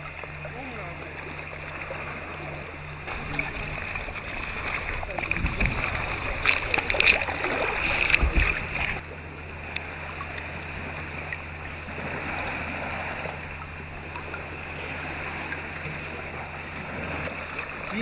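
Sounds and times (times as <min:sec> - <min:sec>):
faint low hum: 0:00.0 - 0:18.0
paddle splashing in water: 0:00.0 - 0:18.0.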